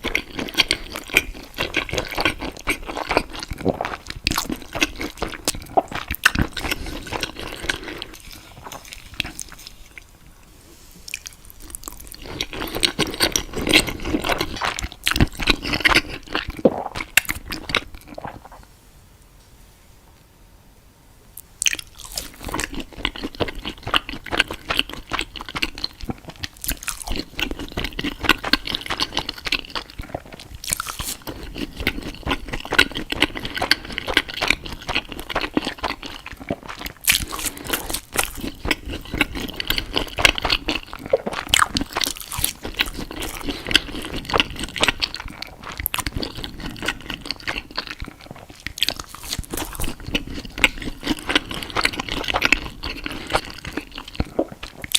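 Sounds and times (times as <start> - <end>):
crunching and chewing: 0.0 - 10.2, 11.0 - 18.7, 21.4 - 54.9.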